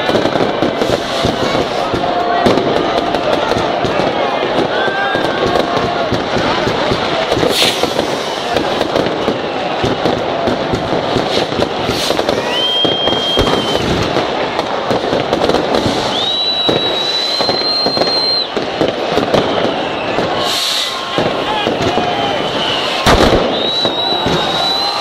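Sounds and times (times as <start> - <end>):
fireworks crackling and banging: 0.0 - 25.0
whistling fireworks: 0.0 - 25.0.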